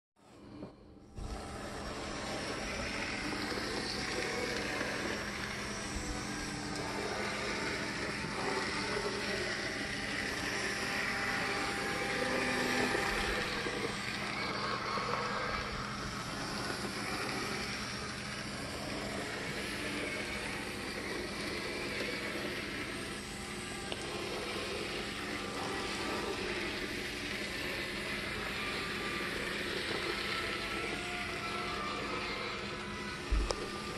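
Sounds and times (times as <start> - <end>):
small electric motor whirring: 0.2 - 33.9
steady low hum: 0.2 - 33.9
wheels running on rails: 0.3 - 33.9.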